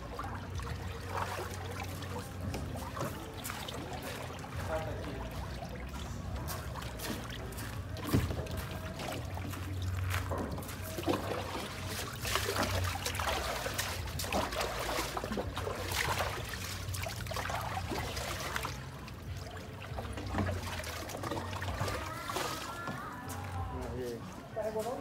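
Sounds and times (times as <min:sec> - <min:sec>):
water pouring and splashing: 0:00.0 - 0:25.0.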